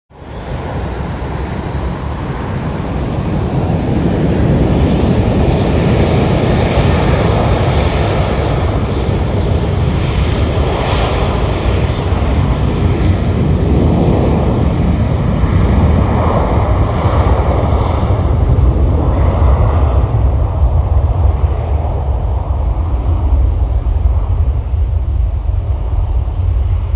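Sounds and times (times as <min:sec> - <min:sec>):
jet engines roaring: 0:00.1 - 0:26.9.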